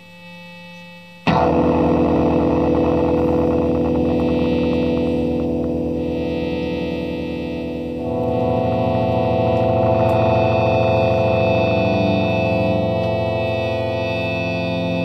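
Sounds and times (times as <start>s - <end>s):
low wavering note: 0.7s - 15.0s
electronic drone music: 1.1s - 15.0s.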